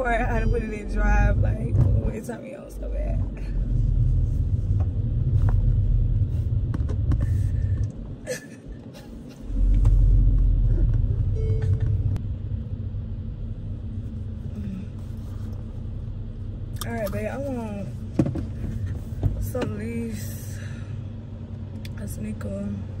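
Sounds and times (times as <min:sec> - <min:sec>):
deep bass rumble in car: 0:00.0 - 0:23.0.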